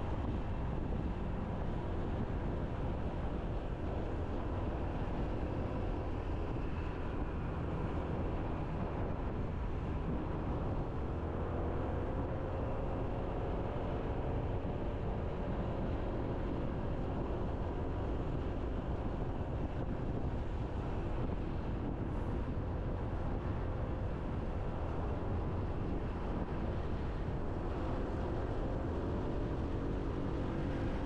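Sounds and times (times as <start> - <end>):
faint engine hum: 0.0 - 31.0
wind and road noise: 0.0 - 31.0.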